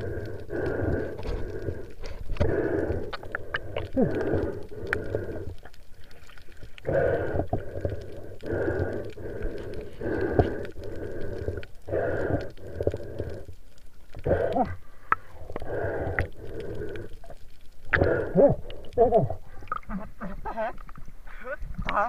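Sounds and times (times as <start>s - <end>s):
breathing through snorkel tube: 0.0s - 19.8s.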